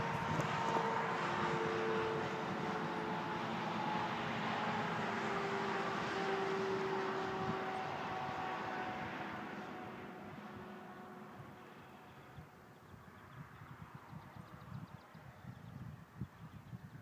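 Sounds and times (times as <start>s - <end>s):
distant engine drone: 0.0s - 16.0s.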